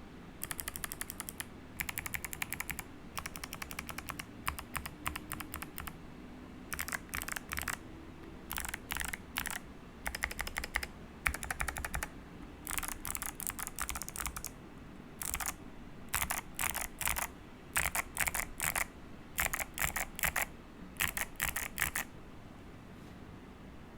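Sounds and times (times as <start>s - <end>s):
mechanical keyboard typing clicks: 0.4s - 6.0s, 6.7s - 14.5s, 15.2s - 22.1s.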